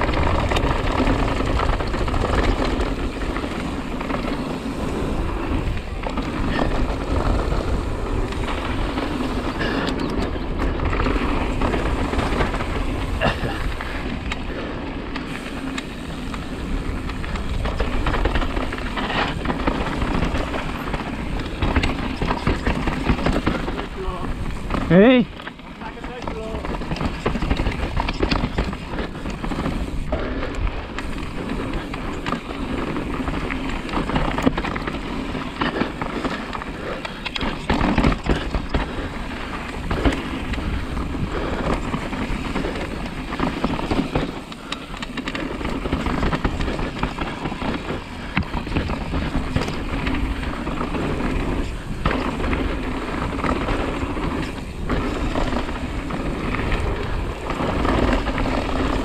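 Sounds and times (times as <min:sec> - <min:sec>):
bike chain and frame clattering: 0:00.0 - 0:59.0
tyres crunching over dirt and stones: 0:00.0 - 0:59.0.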